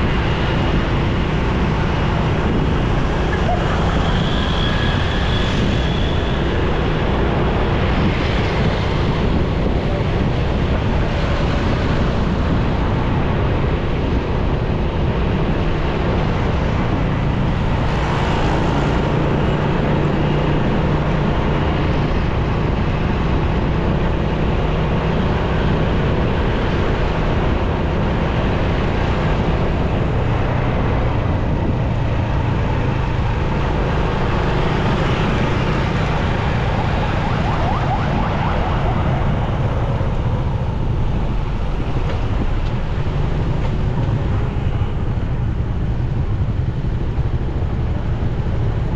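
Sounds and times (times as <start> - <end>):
low engine hum: 0.0 - 48.9
surrounding traffic engines: 0.0 - 48.9
wind rushing over microphone: 0.0 - 48.9.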